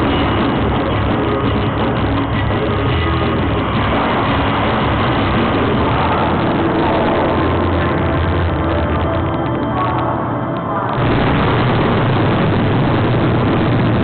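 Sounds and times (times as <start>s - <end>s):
heavy engine-like sound effect: 0.0s - 14.0s
loud music through speakers: 0.0s - 14.0s.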